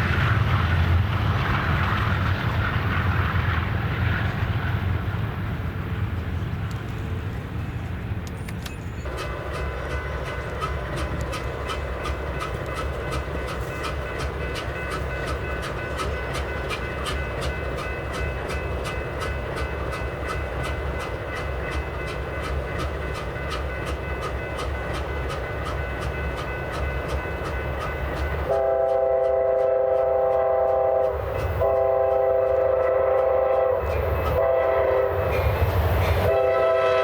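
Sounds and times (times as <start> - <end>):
train rumbling past: 0.0 - 37.0
train wheels clicking: 0.0 - 37.0.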